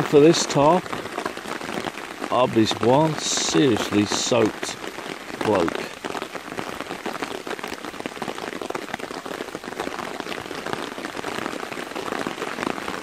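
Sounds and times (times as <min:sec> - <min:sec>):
heavy rain on fabric tarp: 0:00.0 - 0:13.0.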